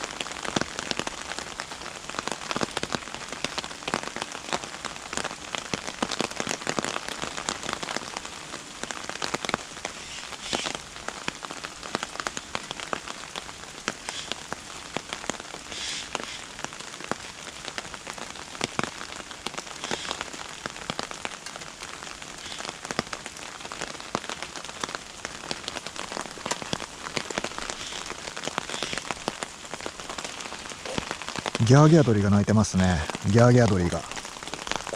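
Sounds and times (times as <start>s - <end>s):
raindrops ticking on surfaces: 0.0s - 34.9s
steady rain: 0.0s - 34.9s.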